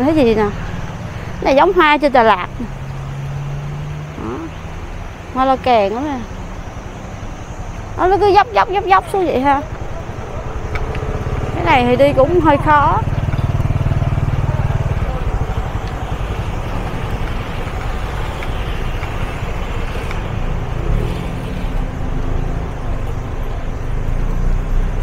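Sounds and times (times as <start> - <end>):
engine and road rumble: 0.0 - 25.0
engine low hum: 0.0 - 25.0.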